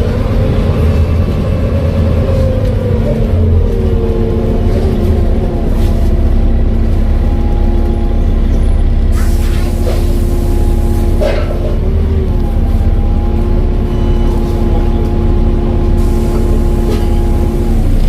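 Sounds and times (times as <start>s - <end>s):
bus engine rumbling with whine: 0.0s - 18.0s.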